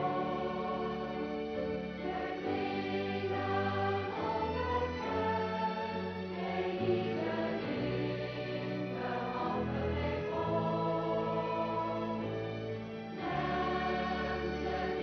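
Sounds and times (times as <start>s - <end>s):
mixed choir singing in harmony: 0.0s - 15.0s.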